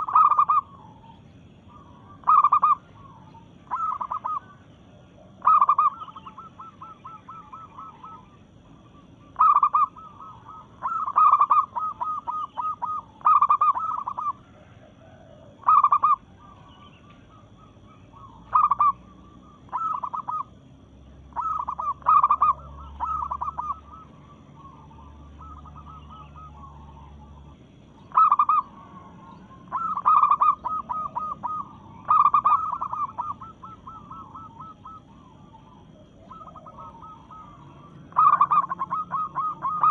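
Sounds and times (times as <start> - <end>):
dove calling: 0.0 - 39.9.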